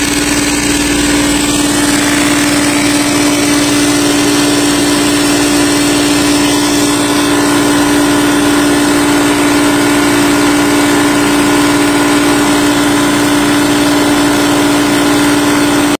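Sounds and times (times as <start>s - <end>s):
air compressor running: 0.0s - 16.0s.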